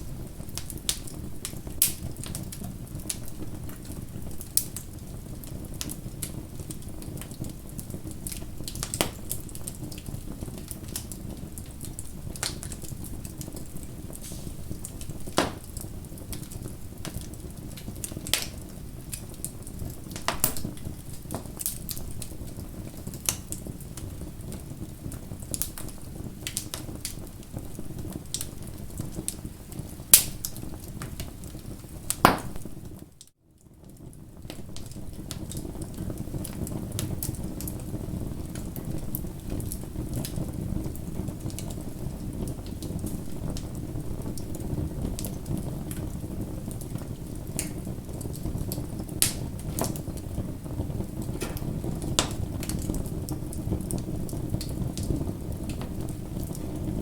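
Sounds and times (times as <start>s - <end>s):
bonfire rumbling: 0.0s - 57.0s
wood crackling and popping: 0.0s - 57.0s.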